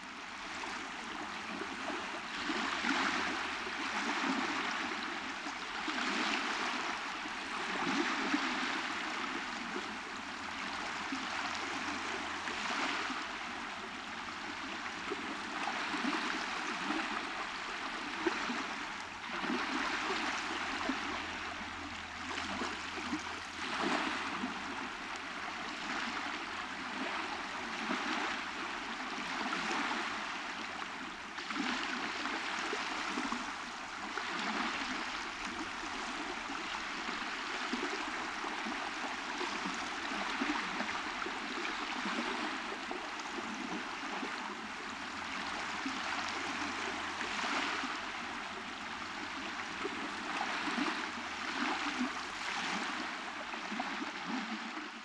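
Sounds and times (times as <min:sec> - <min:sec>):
small ocean waves on a beach: 0:00.0 - 0:55.0.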